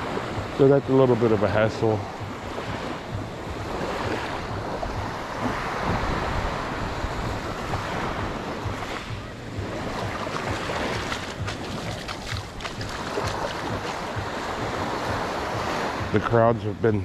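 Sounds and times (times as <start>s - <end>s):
wind on microphone: 0.0s - 16.2s
ocean waves breaking: 0.0s - 17.0s.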